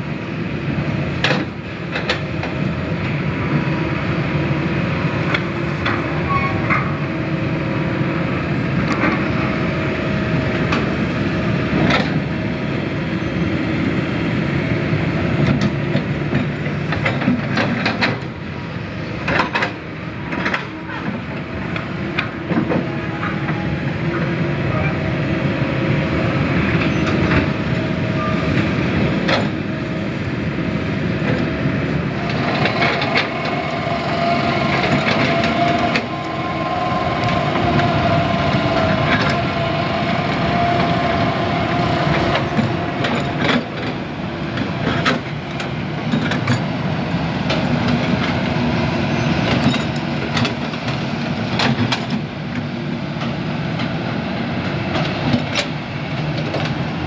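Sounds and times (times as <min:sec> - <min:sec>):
diesel engine rumble: 0:00.0 - 0:57.0.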